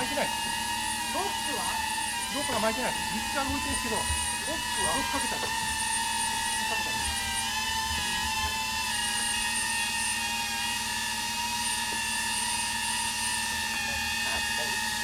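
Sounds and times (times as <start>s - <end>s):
winch motor whining: 0.0s - 15.0s.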